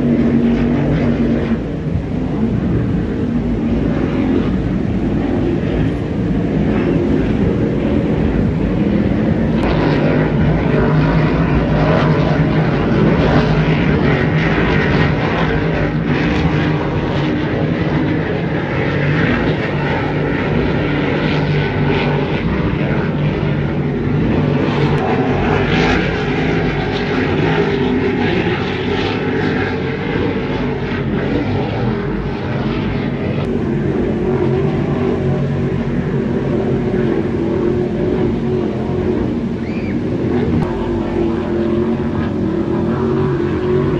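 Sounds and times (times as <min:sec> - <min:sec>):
powerboat engines droning: 0:00.0 - 0:43.9.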